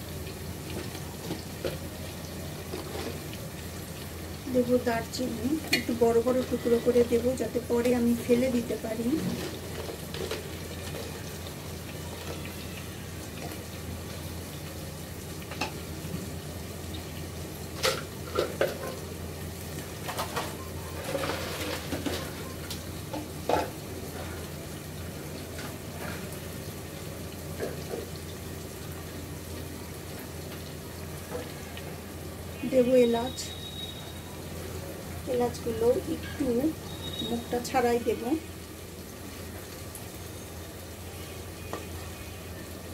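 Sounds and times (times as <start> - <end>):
onions sizzling in oil: 0.0 - 42.9.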